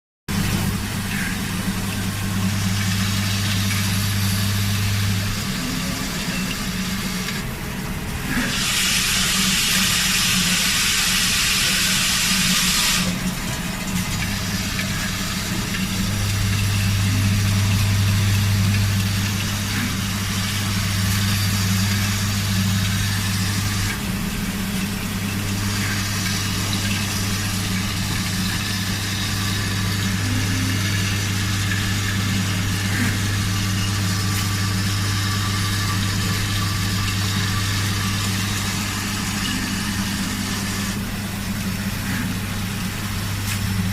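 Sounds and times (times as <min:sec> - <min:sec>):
machine motor hum: 0:00.3 - 0:43.9.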